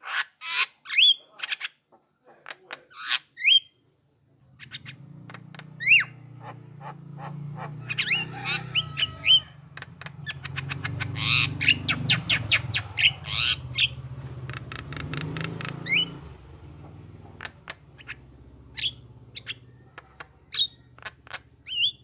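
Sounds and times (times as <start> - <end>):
bird calling with clicks and whistles: 0.0 - 3.8, 4.6 - 22.0.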